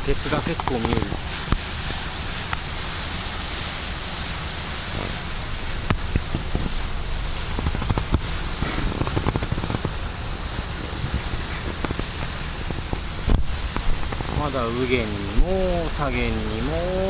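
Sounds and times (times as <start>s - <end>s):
low engine drone: 0.0s - 17.0s
wind and water rushing: 0.0s - 17.0s.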